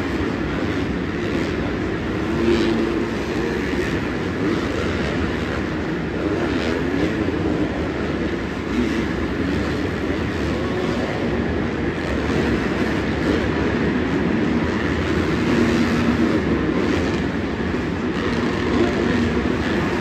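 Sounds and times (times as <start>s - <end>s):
continuous rumble: 0.0s - 20.0s
dirt bike engines revving: 0.0s - 20.0s.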